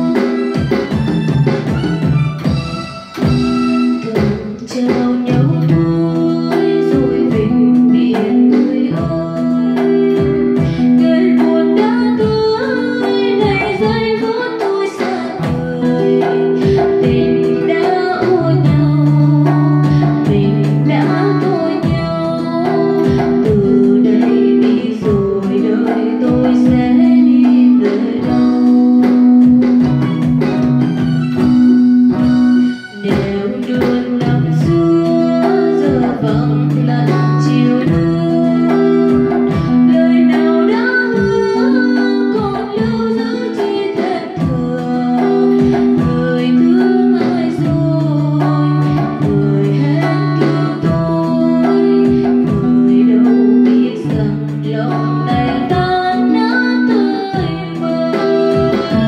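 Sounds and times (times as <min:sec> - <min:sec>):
acoustic guitar: 0:00.0 - 0:59.0
keyboard: 0:00.0 - 0:59.0
woman singing into a microphone: 0:00.0 - 0:59.0.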